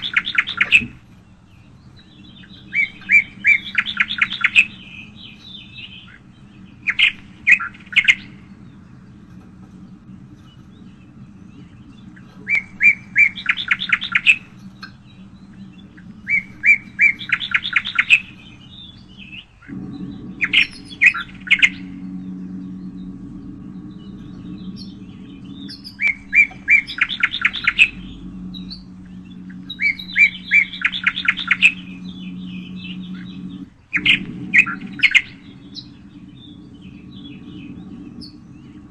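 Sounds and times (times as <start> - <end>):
songbird singing: 0.0 - 38.9
steady low hum: 0.0 - 38.9.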